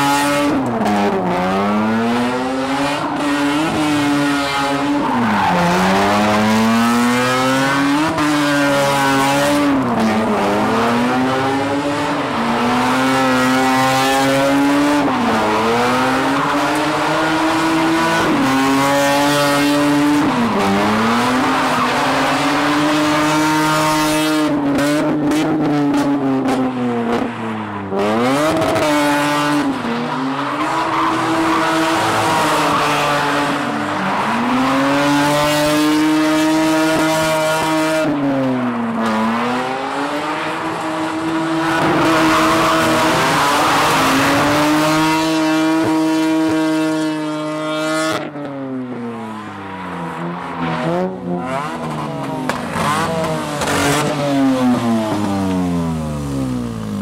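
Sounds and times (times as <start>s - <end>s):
car engine revving high: 0.0s - 27.2s, 27.9s - 48.3s, 50.8s - 57.0s.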